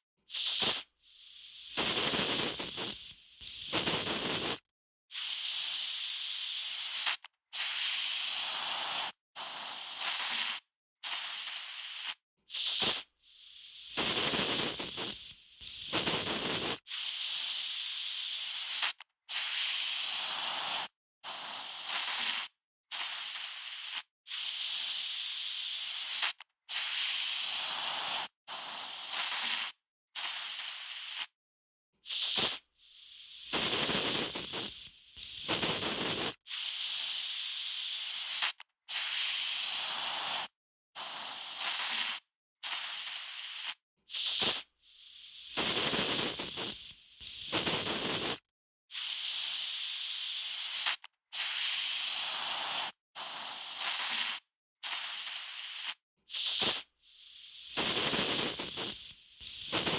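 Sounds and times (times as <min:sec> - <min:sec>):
aerosol spray can hissing: 0:00.3 - 0:31.3, 0:32.0 - 0:59.9.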